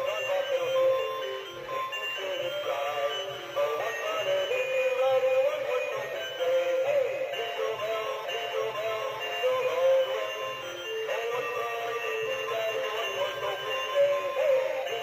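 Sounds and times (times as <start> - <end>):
synthetic voice singing over music: 0.0 - 15.0.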